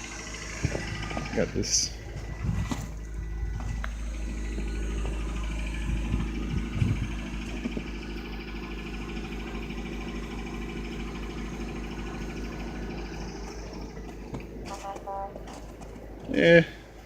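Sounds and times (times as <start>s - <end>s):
car engine idling: 0.0s - 17.0s
low bumps: 0.0s - 17.0s.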